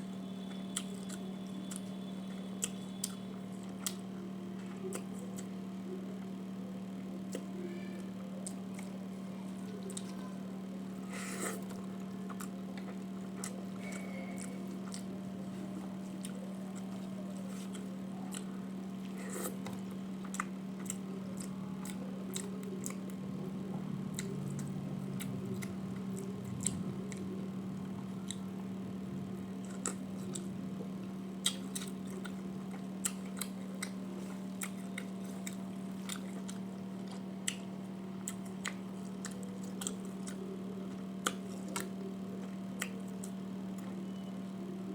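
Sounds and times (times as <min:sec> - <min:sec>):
steady low hum: 0:00.0 - 0:44.9
person chewing food: 0:00.4 - 0:05.5, 0:08.4 - 0:09.0, 0:09.6 - 0:10.3, 0:11.0 - 0:23.2, 0:24.1 - 0:28.6, 0:29.3 - 0:44.0.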